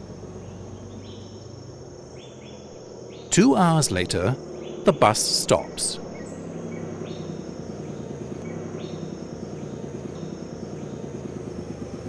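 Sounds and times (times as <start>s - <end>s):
bus engine idling: 0.0s - 12.0s
insects chirring: 0.0s - 12.0s.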